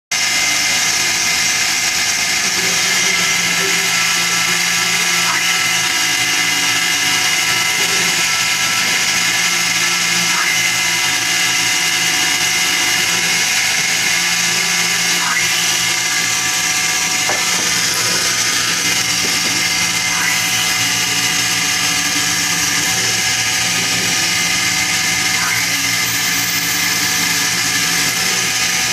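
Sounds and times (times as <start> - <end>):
mill spindle whining: 0.1 - 28.9.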